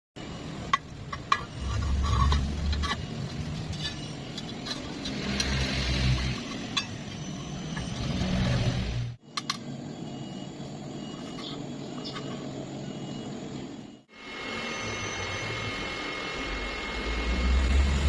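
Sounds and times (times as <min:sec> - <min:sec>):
low hum: 0:00.2 - 0:18.0.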